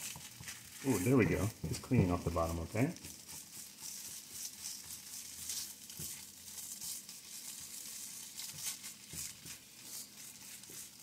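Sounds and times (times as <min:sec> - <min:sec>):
rice sizzling in a skillet: 0:00.0 - 0:11.0
spatula scraping pan: 0:00.0 - 0:11.0.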